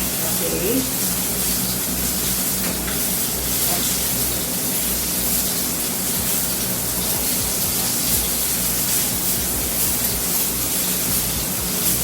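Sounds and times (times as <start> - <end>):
stovetop cooking hiss: 0.0 - 12.0.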